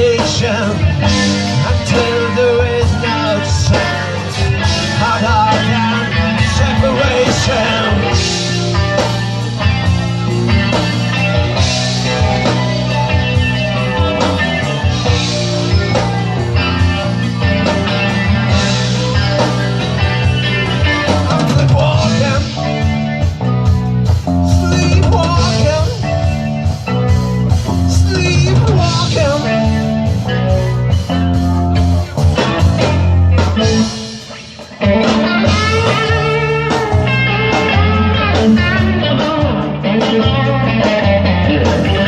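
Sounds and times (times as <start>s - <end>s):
bending lead guitar line: 0.0s - 42.0s
rock band playing: 0.0s - 42.0s.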